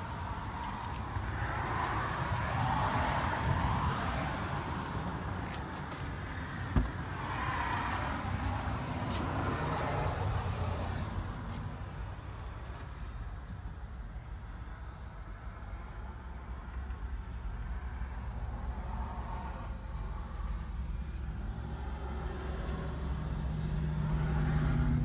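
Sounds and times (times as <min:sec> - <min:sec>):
low traffic rumble: 0:00.0 - 0:25.0
vehicles passing: 0:00.0 - 0:25.0.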